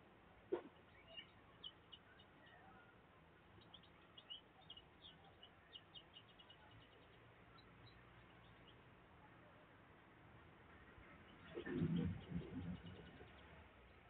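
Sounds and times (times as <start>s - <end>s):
small birds chirping: 0.4s - 9.3s, 11.1s - 14.0s.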